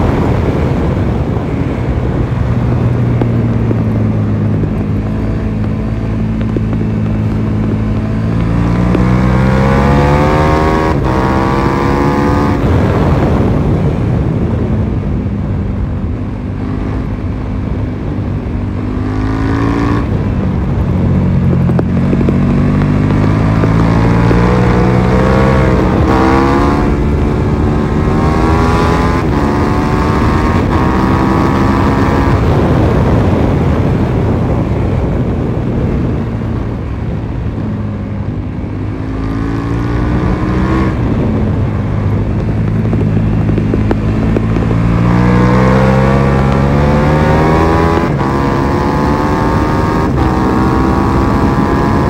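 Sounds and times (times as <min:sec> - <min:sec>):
motorcycle engine accelerating: 0:00.0 - 0:52.0
wind rushing: 0:00.0 - 0:52.0.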